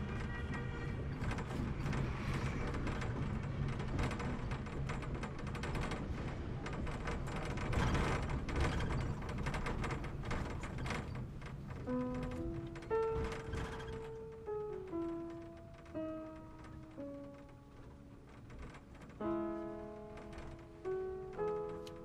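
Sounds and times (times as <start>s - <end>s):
bus engine rumble: 0.0s - 22.0s
small rattles and clicks: 0.0s - 22.0s.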